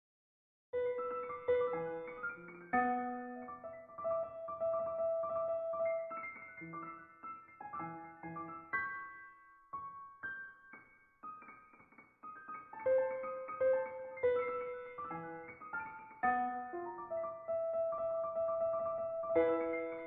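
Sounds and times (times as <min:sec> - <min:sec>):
piano melody over chords: 0:00.8 - 0:20.0.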